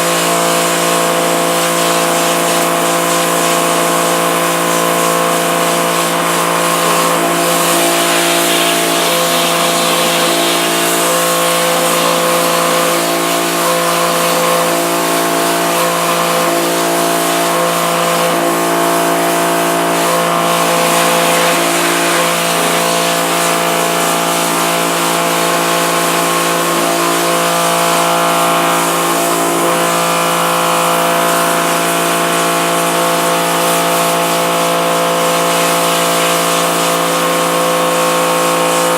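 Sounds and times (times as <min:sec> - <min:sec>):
pressure washer motor hum: 0:00.0 - 0:38.9
water jet hissing: 0:00.0 - 0:38.9.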